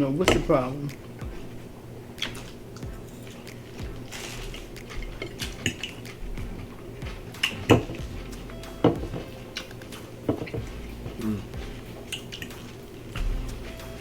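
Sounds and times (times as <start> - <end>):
cutlery and dishes clattering: 0.2 - 13.2.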